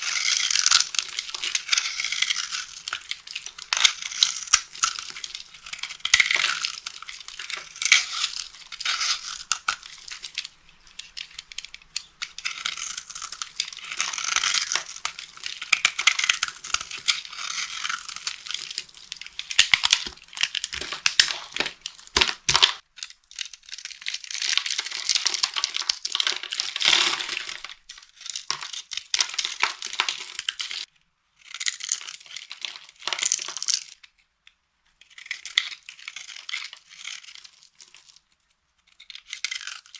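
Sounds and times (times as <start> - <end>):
dry soap crunching: 0.0 - 33.9, 35.0 - 38.2.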